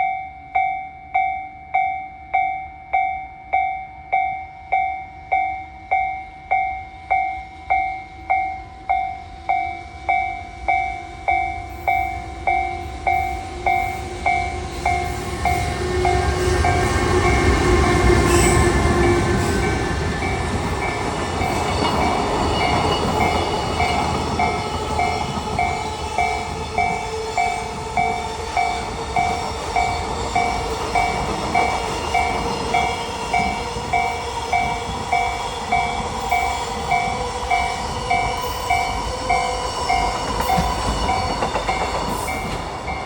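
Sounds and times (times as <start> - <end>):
freight train passing: 0.0 - 43.0
level crossing warning bell: 0.0 - 43.0.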